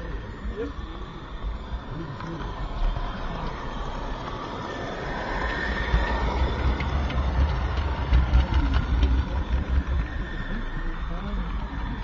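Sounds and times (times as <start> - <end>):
model train rolling rumble: 0.0 - 12.0.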